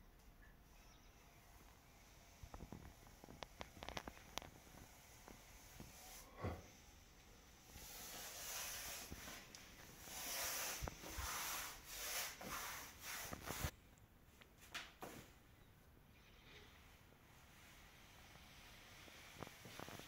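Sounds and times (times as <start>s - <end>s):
rubbing strokes on surface: 0.7s - 13.7s, 16.6s - 20.0s.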